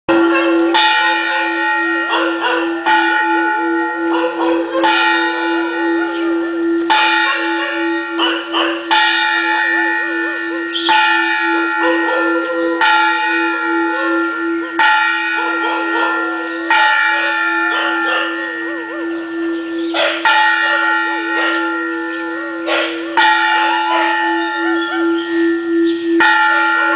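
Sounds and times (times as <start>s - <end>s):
dogs howling: 0.1s - 26.9s
temple bell ringing: 0.1s - 26.9s.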